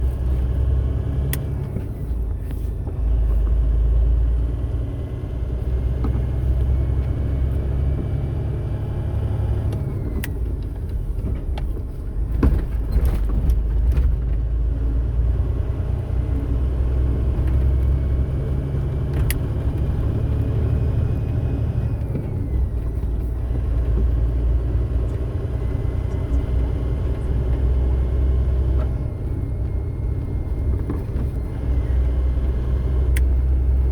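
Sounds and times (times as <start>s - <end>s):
car engine: 0.0s - 33.9s
road rumble: 0.0s - 33.9s.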